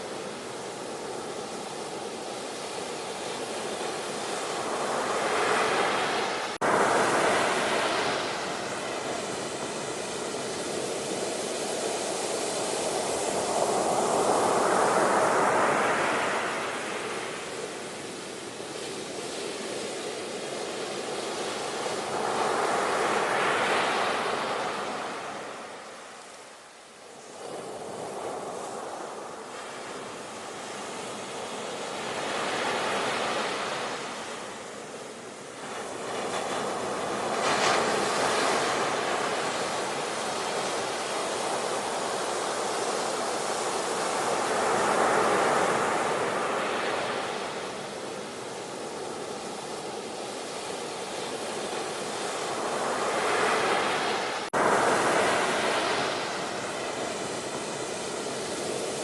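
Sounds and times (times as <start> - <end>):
ocean waves breaking: 0.0 - 26.4, 27.1 - 59.0.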